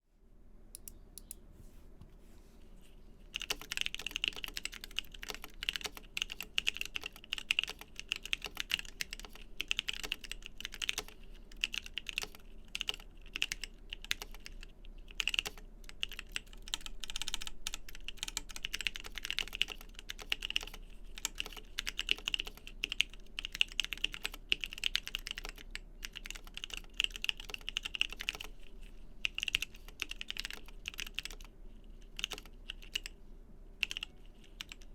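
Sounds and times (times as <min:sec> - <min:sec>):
mechanical keyboard typing: 0:03.4 - 0:28.5, 0:29.2 - 0:33.2, 0:33.8 - 0:34.9.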